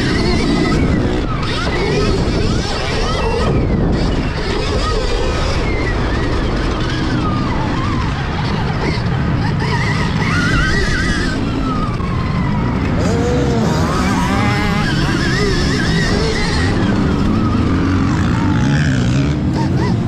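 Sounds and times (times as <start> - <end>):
wind and ground noise: 0.0 - 20.0.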